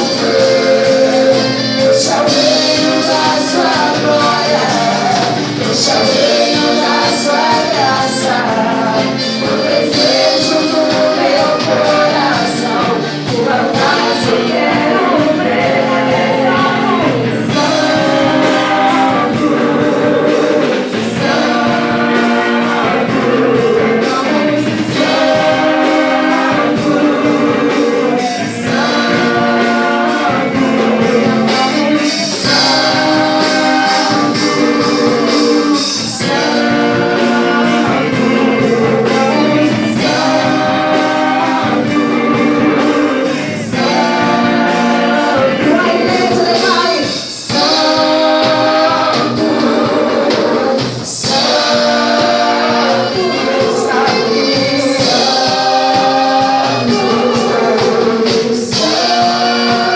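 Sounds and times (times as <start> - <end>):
choir singing with instruments: 0.0 - 59.9.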